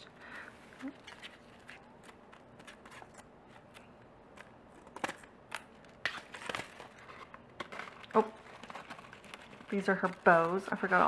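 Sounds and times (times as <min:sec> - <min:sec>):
packaging crinkle: 0:00.8 - 0:11.0
package rustling and clicking: 0:01.0 - 0:11.0.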